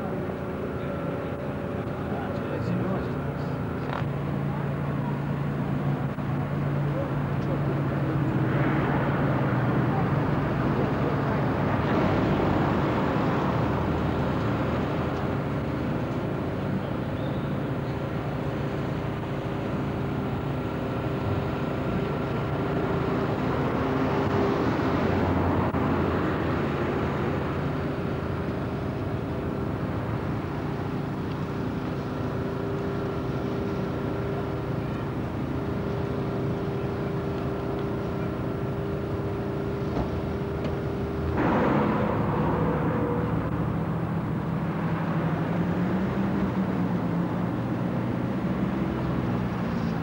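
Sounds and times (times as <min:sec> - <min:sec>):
steady engine-like hum: 0:00.0 - 0:50.0.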